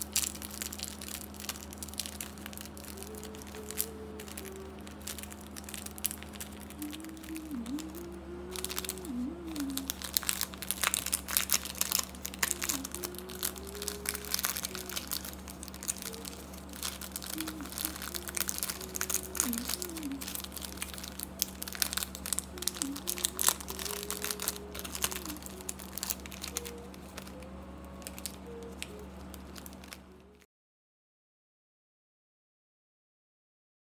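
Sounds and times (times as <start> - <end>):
plastic bag crinkling: 0.0 - 30.4
faint background music: 0.0 - 30.5
steady low hum: 0.0 - 30.5.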